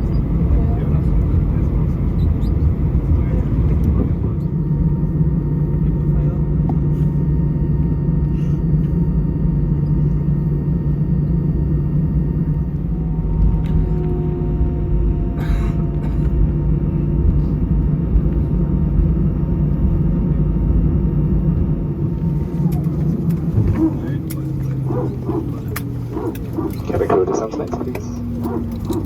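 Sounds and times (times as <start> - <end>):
aircraft cabin rumble while taxiing: 0.0 - 29.0.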